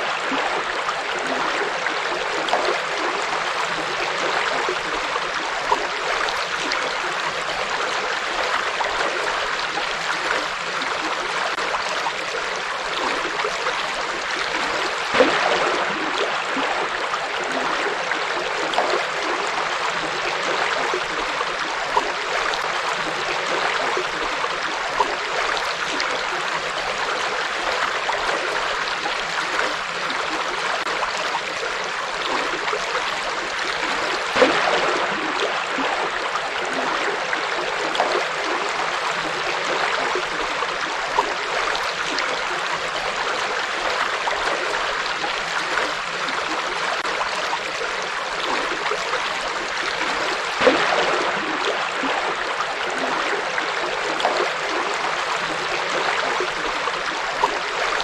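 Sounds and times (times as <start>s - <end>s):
water splashing: 0.0s - 58.0s.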